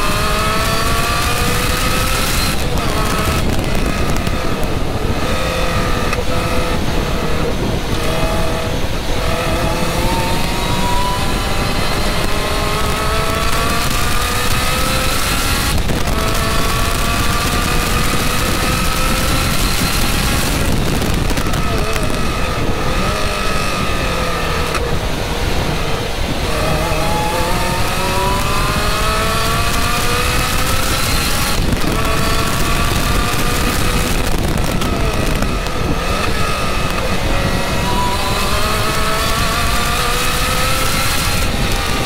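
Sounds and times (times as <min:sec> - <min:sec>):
car engine accelerating: 0:00.0 - 0:42.0
wind rush: 0:00.0 - 0:42.0.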